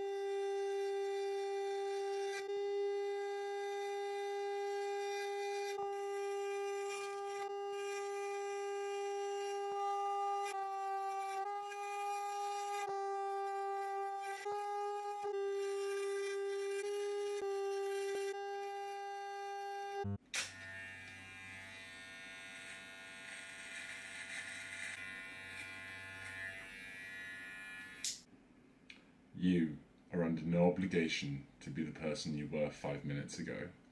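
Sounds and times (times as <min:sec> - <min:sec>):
electric hair clippers buzzing: 0:00.0 - 0:28.3.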